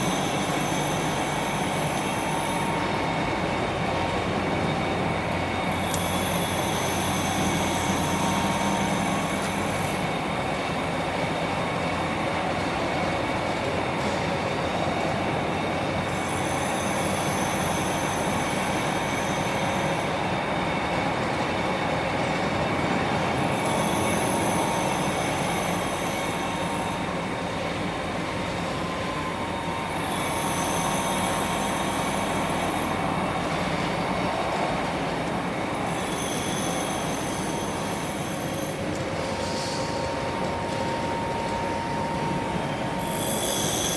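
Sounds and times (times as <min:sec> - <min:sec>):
lathe gear whine: 0:00.0 - 0:43.9
lathe mechanical noise: 0:00.0 - 0:43.9.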